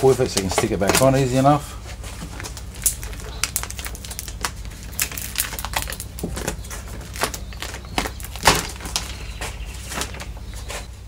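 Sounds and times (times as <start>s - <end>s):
plastic sheet peeling and crackling: 0.0s - 10.9s.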